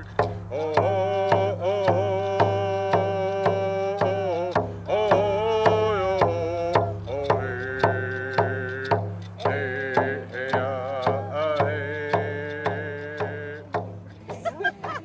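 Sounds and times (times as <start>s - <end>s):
hand drum beat: 0.0s - 15.0s
person singing: 0.0s - 15.0s.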